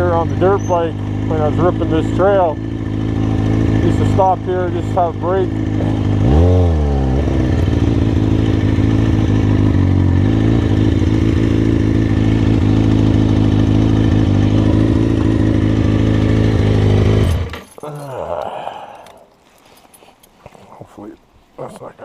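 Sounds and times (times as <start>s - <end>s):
motorcycle engine idling: 0.0s - 17.8s
motorcycle engine revving: 0.0s - 17.8s.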